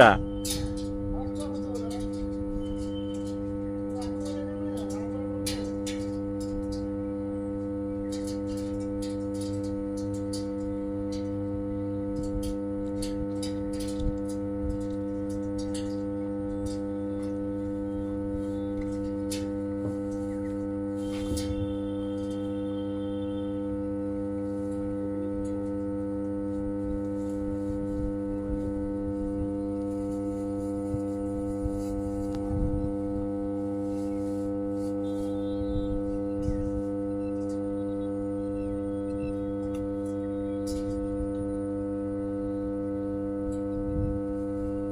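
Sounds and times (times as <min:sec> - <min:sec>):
transformer humming: 0:00.0 - 0:44.9.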